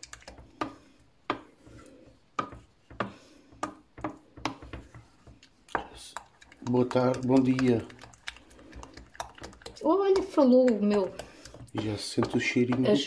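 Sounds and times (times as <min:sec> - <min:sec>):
wooden spoon scraping saucepan: 0:00.2 - 0:13.0.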